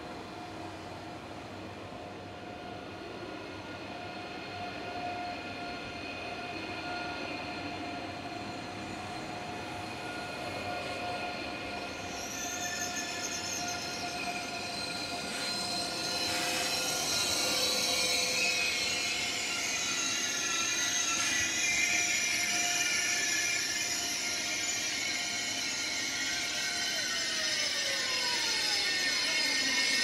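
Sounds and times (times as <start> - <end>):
high-pitched wheel squeal: 4.0 - 30.0.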